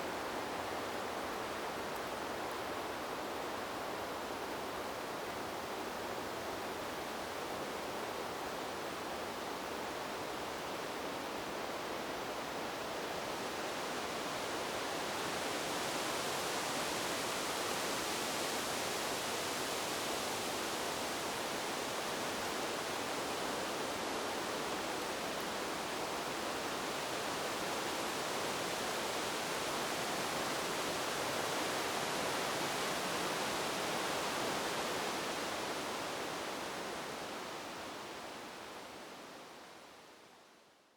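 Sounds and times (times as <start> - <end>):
wind through bamboo: 0.0 - 40.9.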